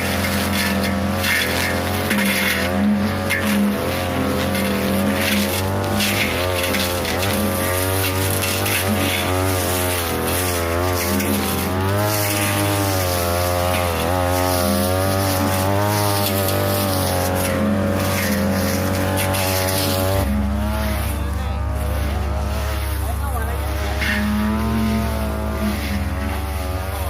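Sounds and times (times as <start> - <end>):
brush cutter cutting scrub: 0.0 - 27.0.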